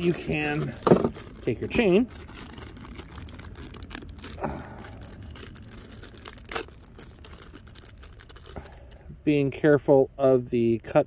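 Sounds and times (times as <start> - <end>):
plastic bag crinkling and tearing: 0.0 - 9.2.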